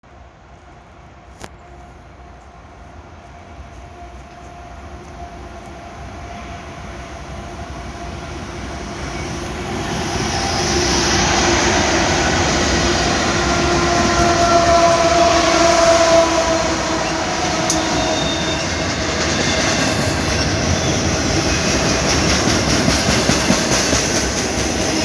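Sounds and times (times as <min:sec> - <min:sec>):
freight train rumble and rail noise: 0:00.1 - 0:25.0.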